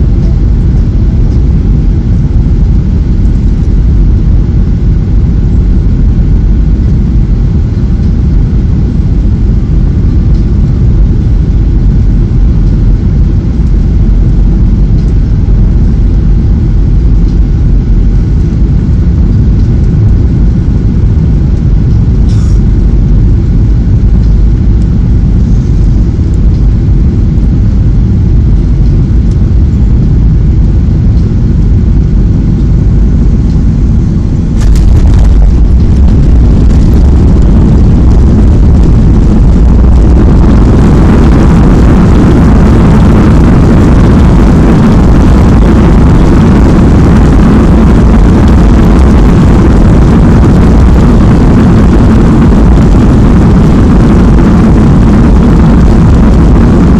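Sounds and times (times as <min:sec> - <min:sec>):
aircraft cabin engine rush: 0:00.0 - 0:56.9
jet engines roaring: 0:00.0 - 0:56.9.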